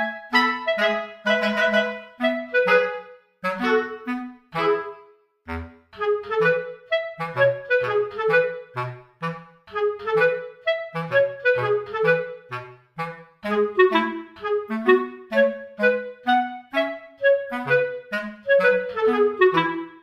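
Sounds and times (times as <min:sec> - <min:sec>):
light bouncy music: 0:00.0 - 0:20.0.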